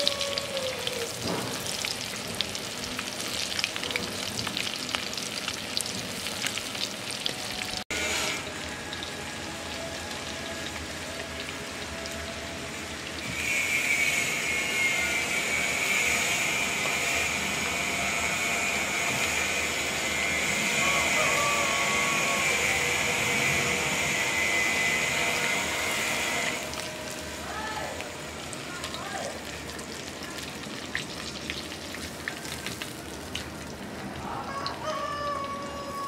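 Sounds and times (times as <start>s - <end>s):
fish deep-frying in oil: 0.0s - 36.0s.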